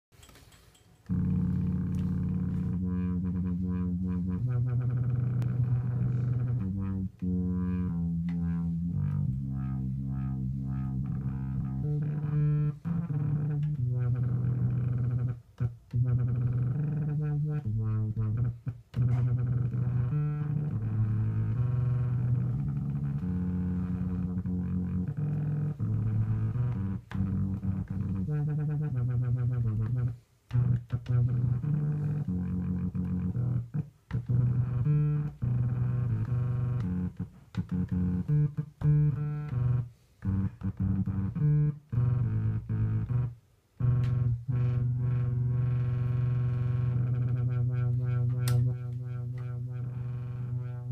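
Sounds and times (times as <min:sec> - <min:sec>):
buzzy synthesizer bass line: 0:01.1 - 0:50.9.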